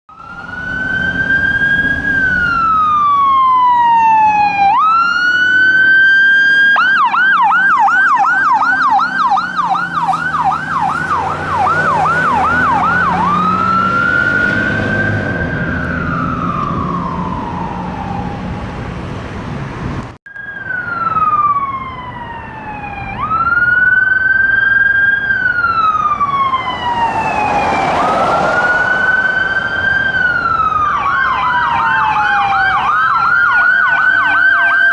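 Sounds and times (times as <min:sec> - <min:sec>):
fire engine siren wailing and yelping: 0:00.1 - 0:19.1, 0:20.3 - 0:34.9
diesel engine rumble: 0:06.7 - 0:34.9.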